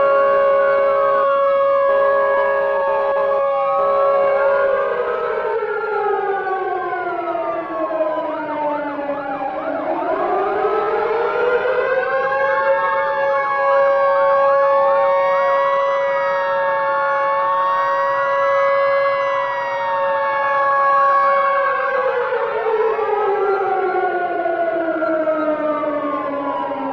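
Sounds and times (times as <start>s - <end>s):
air raid sirens: 0.0s - 26.9s.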